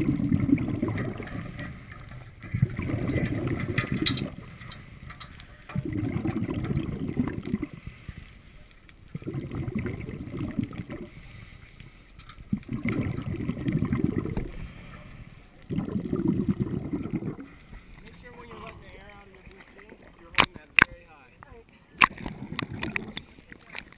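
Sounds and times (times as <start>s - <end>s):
underwater regulator bubbles: 0.0s - 20.9s, 22.0s - 23.9s.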